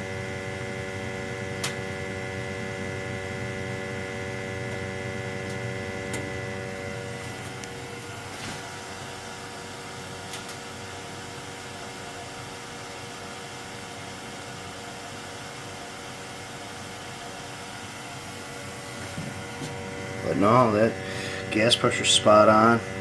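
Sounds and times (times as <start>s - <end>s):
boiler humming: 0.0s - 23.0s.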